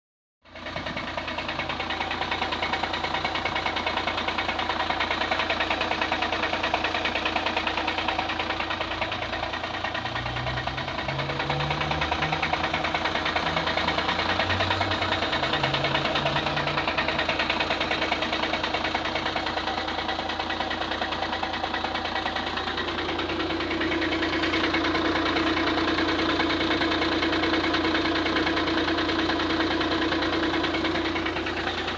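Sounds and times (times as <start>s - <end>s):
engine knocking: 0.4s - 31.9s
diesel engine idling: 0.5s - 31.9s.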